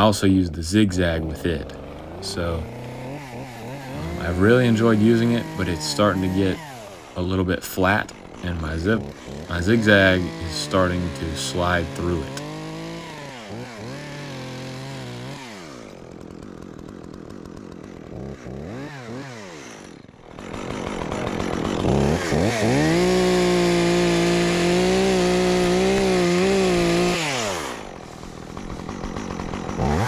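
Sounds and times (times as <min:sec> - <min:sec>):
chainsaw cutting wood: 0:00.0 - 0:30.0
chainsaw idling: 0:00.0 - 0:30.0.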